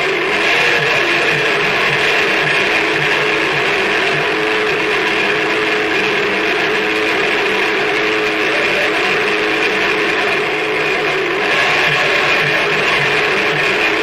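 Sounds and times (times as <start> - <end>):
droning tones: 0.0 - 14.0
harsh noise wall: 0.0 - 14.0
fluttering low pulse: 0.6 - 14.0.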